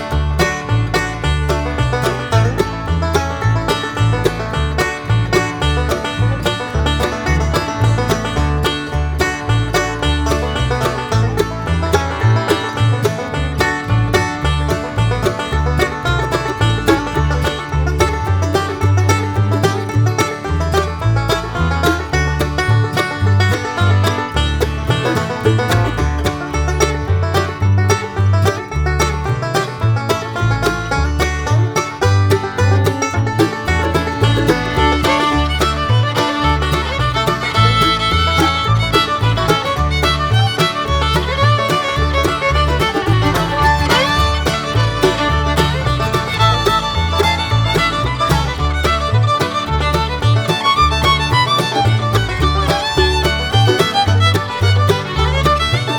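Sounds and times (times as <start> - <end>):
bluegrass music with banjo and fiddle: 0.0 - 55.9.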